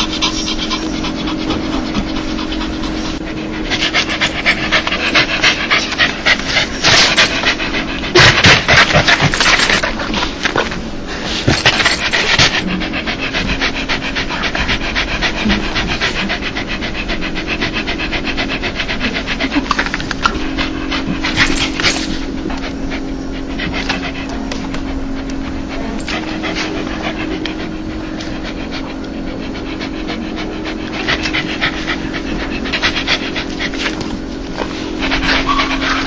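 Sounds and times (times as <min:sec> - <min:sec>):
dog panting: 0:00.0 - 0:36.0.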